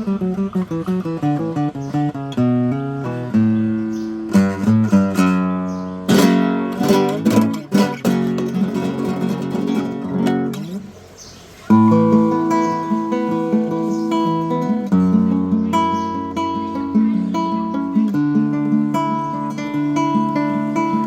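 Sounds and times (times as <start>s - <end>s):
classical guitar plucked notes and chords: 0.0s - 21.0s.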